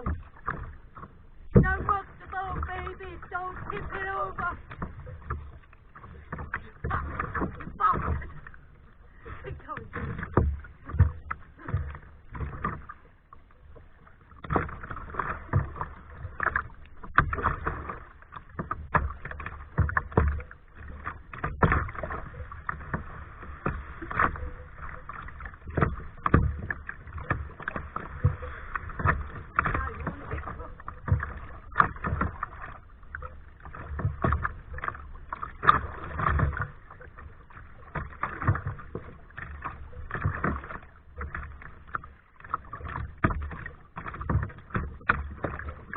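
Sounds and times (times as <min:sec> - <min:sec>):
running wash of water: 0:00.0 - 0:13.1, 0:13.8 - 0:45.9
paddle knocks: 0:00.0 - 0:45.9
paddle splashing in water: 0:00.0 - 0:45.9.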